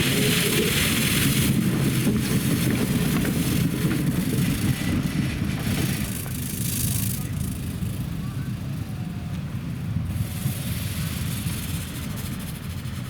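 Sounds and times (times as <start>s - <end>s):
snow-sweeper streetcar rumbling: 0.0s - 13.0s.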